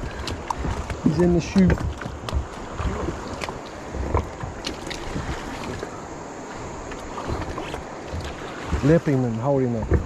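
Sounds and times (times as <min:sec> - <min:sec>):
sharp splashes or knocks: 0:00.0 - 0:06.0, 0:06.6 - 0:10.0
river water flowing: 0:00.0 - 0:10.0
wind buffeting microphone: 0:00.0 - 0:10.0.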